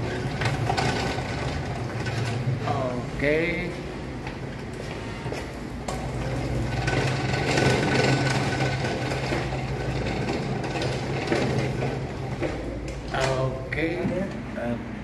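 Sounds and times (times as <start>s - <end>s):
wheelchair wheels rattling: 0.0s - 14.5s
steady low hum: 0.0s - 15.0s.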